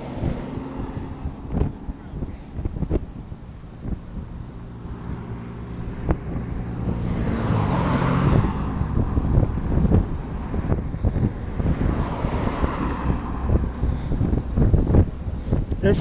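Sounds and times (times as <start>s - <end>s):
vehicle engine running: 0.0s - 16.0s
wind on microphone: 0.0s - 16.0s.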